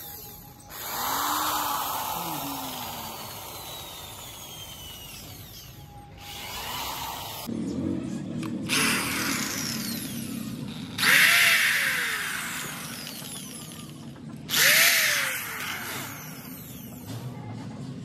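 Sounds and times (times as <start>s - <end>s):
electric drill boring: 0.0s - 7.5s, 8.7s - 17.1s.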